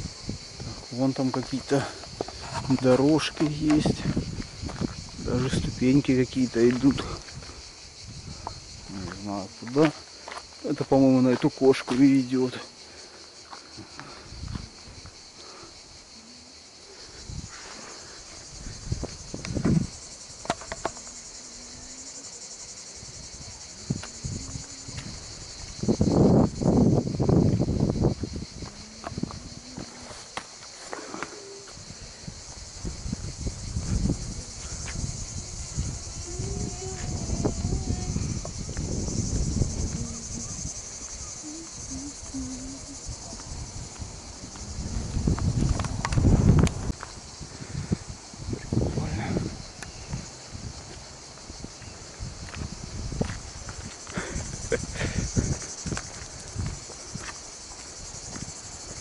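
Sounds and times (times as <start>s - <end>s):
wind rumble: 0.0s - 1.0s, 2.0s - 9.2s, 17.0s - 30.2s, 31.7s - 59.0s
insect chorus: 0.0s - 59.0s.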